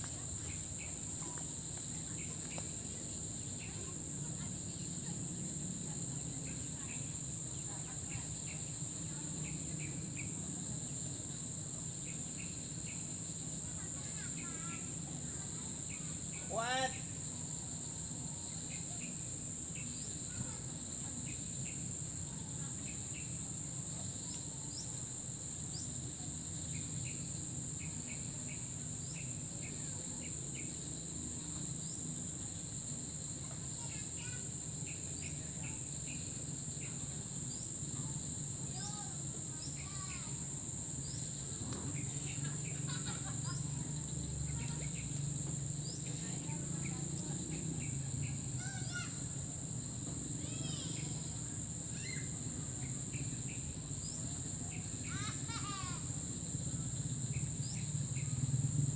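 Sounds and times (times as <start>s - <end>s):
insects droning: 0.0s - 58.9s.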